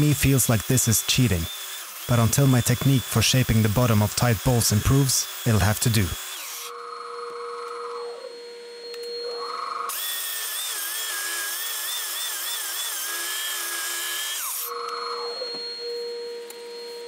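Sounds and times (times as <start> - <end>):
belt sander whining: 0.0 - 6.8, 8.3 - 17.0
steady machine whine: 0.0 - 11.6, 13.1 - 17.0.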